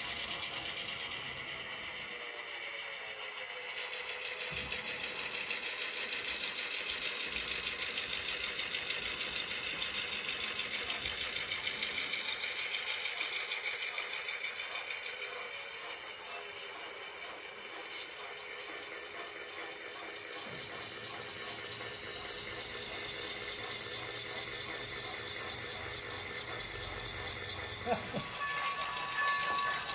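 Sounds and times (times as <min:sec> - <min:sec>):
model train motor hum: 0:00.0 - 0:29.9.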